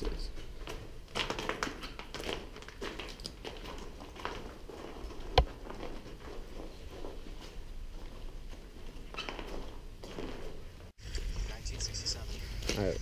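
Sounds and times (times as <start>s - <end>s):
footsteps crunching on debris: 0.0s - 11.0s.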